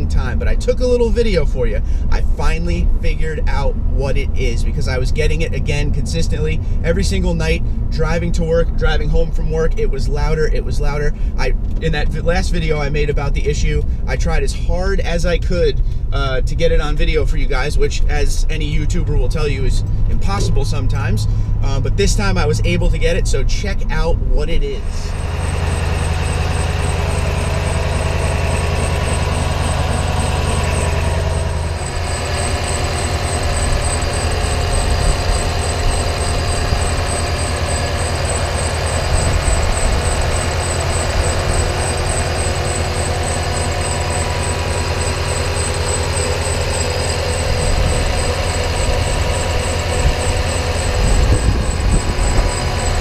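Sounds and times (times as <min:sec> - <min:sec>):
engine belt squeal: 0:00.0 - 0:01.8, 0:02.4 - 0:53.0
truck engine idling: 0:00.0 - 0:53.0.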